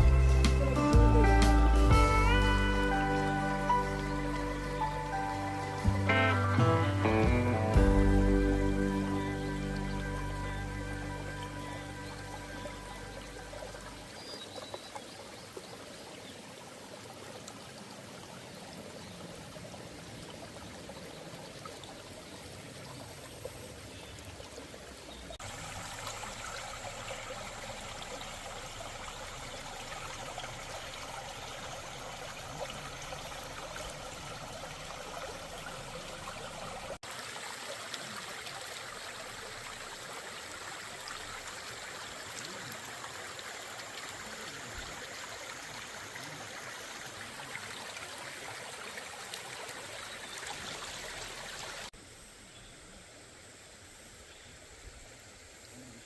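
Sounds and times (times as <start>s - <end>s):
stream flowing: 0.0s - 52.2s.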